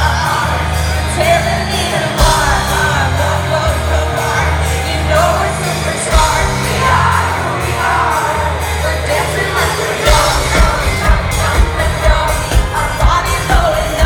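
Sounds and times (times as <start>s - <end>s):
deep bass line: 0.0s - 14.0s
live pop music through pa: 0.0s - 14.0s
person singing: 0.0s - 14.0s.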